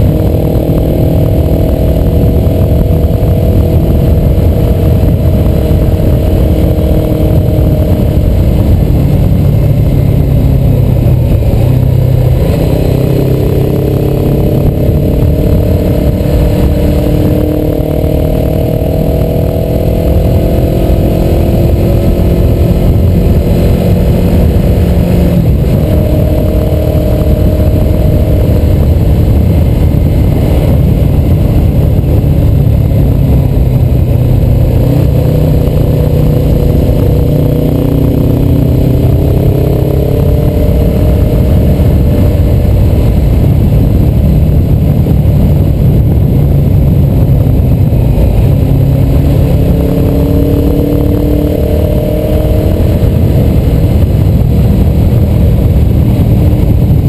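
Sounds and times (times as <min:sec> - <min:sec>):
motorcycle engine roar: 0:00.0 - 0:57.0
wind rush on microphone: 0:00.0 - 0:57.0.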